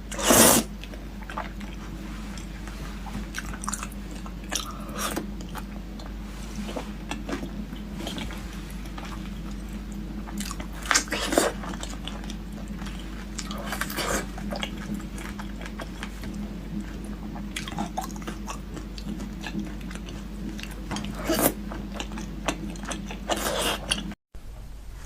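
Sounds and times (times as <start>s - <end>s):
steady low hum: 0.0s - 25.0s
chewing and biting food: 0.7s - 24.2s.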